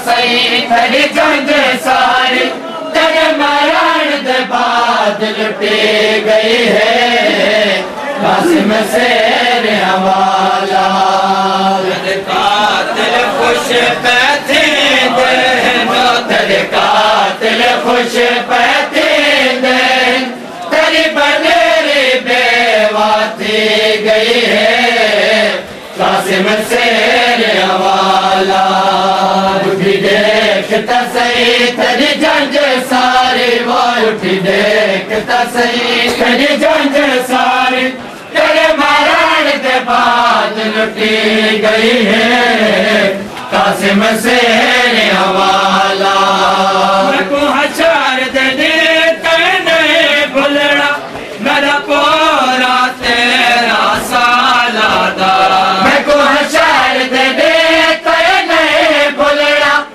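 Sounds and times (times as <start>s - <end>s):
men chanting a lament: 0.0s - 59.9s.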